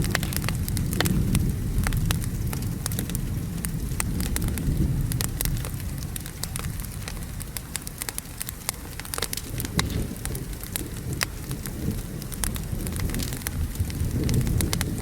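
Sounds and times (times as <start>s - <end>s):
low thunder rumble: 0.0s - 8.4s, 9.3s - 15.0s
rain hiss: 0.0s - 15.0s
wood fire crackling: 0.0s - 15.0s.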